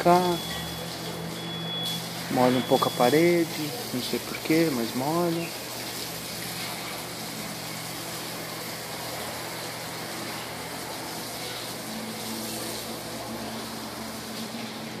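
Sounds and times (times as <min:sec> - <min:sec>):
hose spraying water on tiles: 0:00.0 - 0:15.0.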